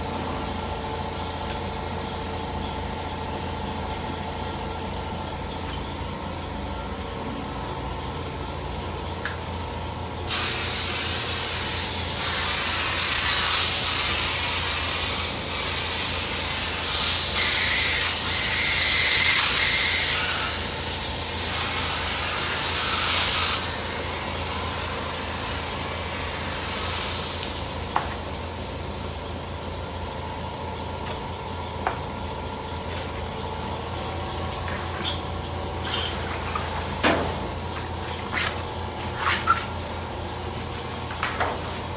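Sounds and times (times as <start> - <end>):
air compressor humming: 0.0 - 41.9.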